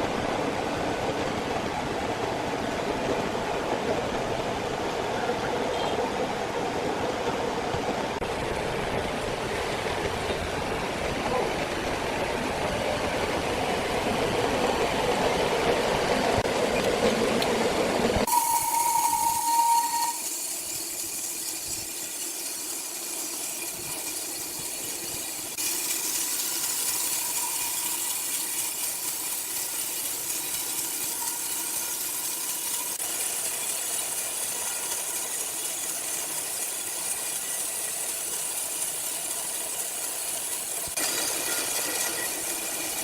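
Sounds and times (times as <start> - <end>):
sawmill machinery hissing: 7.8 - 43.0.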